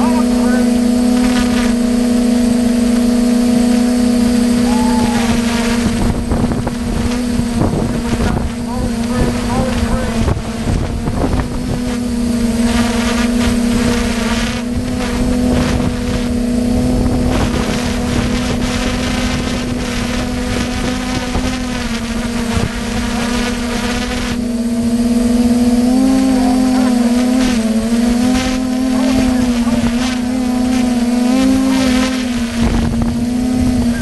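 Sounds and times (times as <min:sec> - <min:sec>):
motorboat engine running: 0:00.0 - 0:34.0
wind buffeting microphone: 0:01.5 - 0:34.0.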